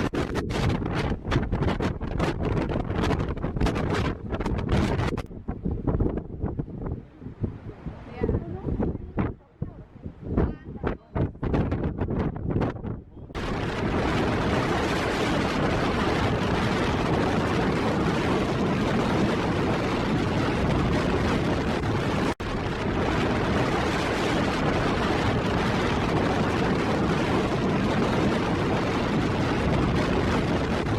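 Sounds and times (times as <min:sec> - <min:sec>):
strong wind buffeting microphone: 0:00.0 - 0:30.9.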